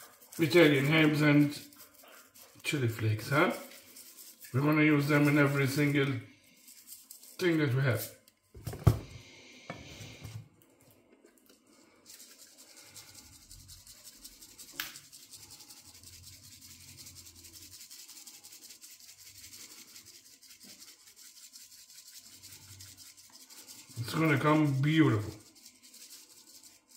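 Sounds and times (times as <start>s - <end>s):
spice grinder grinding: 0.0s - 9.2s, 11.5s - 26.9s.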